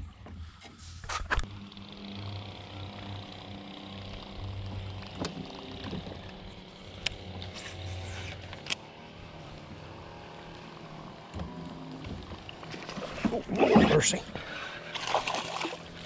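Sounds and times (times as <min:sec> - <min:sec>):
fishing line whirring off spool: 0:00.8 - 0:16.0
electric trolling motor humming: 0:01.3 - 0:16.0.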